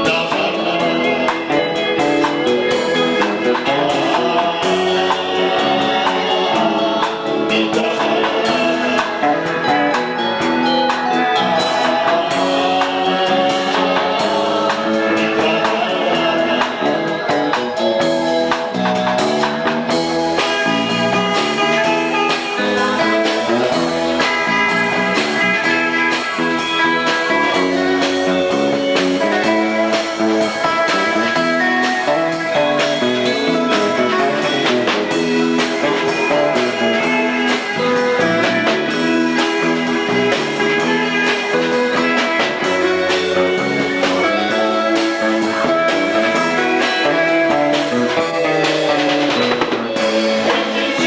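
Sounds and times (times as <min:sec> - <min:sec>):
band playing: 0:00.0 - 0:51.0
drum kit beat: 0:00.0 - 0:51.0
guitar: 0:00.0 - 0:51.0.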